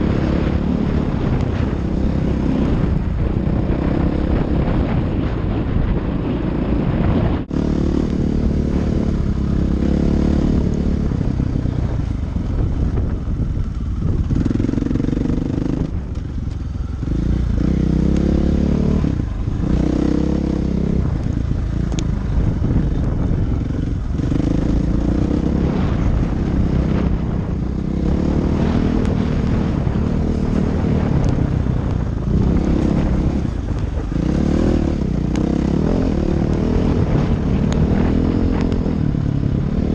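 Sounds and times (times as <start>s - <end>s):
dirt bike engine revving: 0.0s - 13.3s, 13.9s - 16.3s, 17.0s - 39.9s.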